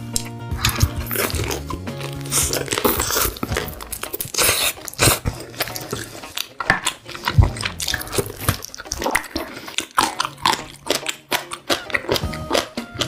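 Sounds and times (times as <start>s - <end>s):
background music: 0.0s - 13.0s
crunchy chewing: 0.0s - 13.0s.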